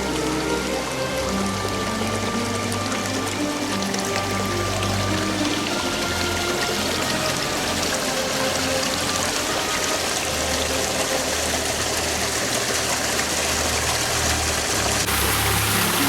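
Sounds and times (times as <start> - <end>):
faint music: 0.0 - 16.0
waterfall rushing: 0.0 - 16.0.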